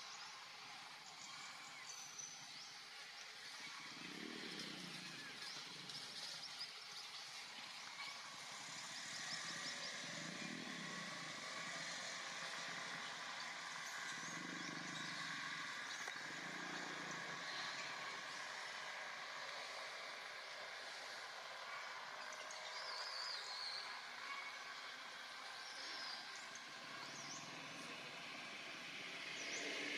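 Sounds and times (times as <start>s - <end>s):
distant motor traffic: 0.0s - 29.9s.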